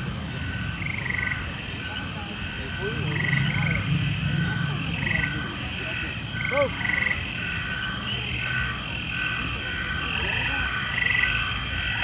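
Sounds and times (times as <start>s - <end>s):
frogs trilling: 0.0s - 12.0s
low background noise: 0.0s - 12.0s.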